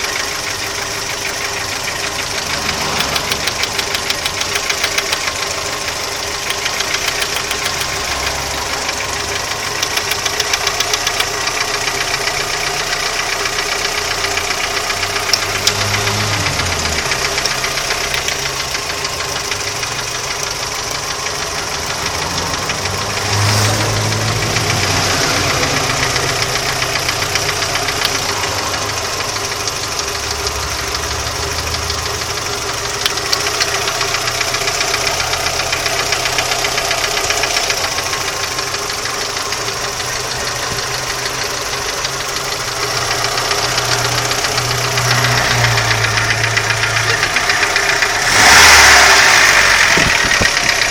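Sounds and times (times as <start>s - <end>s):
car engine knocking: 0.0s - 50.9s.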